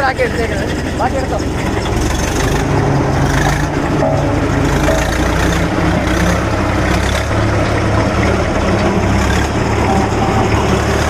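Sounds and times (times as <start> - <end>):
road roller diesel engine: 0.0 - 11.0.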